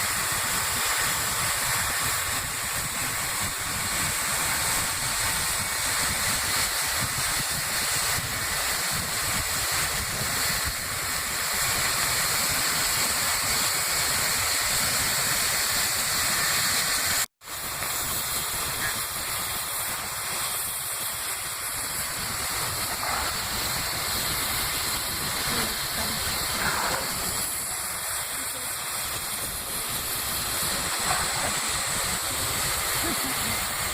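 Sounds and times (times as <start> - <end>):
steam locomotive hissing: 0.0 - 33.9.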